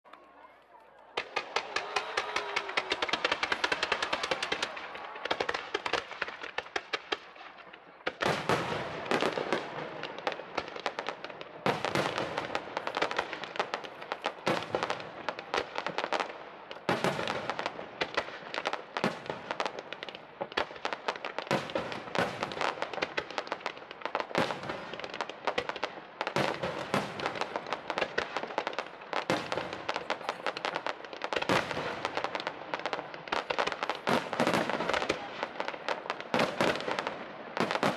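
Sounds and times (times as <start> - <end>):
fireworks crackling: 0.3 - 37.9
fireworks bangs: 0.4 - 37.9.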